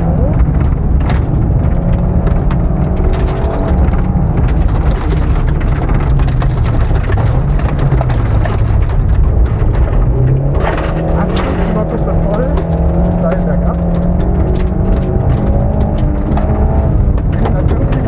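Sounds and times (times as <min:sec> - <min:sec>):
gravel striking car underbody: 0:00.0 - 0:18.0
rally car engine running hard: 0:00.0 - 0:18.0.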